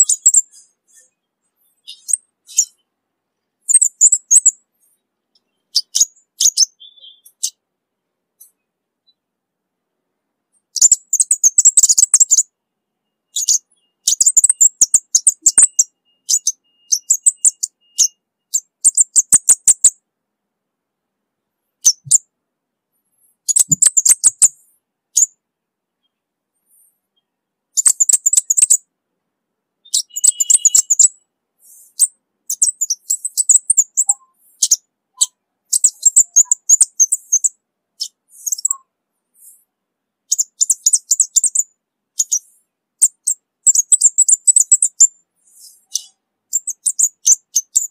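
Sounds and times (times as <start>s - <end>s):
bird high chittering song: 0.0s - 2.9s, 3.6s - 7.6s, 10.6s - 20.0s, 21.7s - 22.3s, 23.2s - 25.4s, 26.0s - 28.8s, 29.8s - 39.7s, 40.3s - 47.9s.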